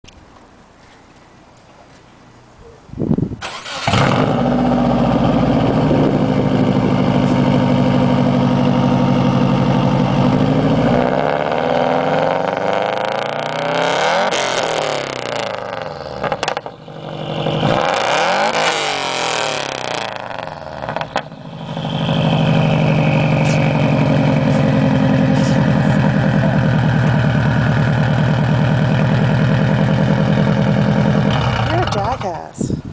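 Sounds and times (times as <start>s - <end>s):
car engine idling and revving: 3.5s - 32.4s.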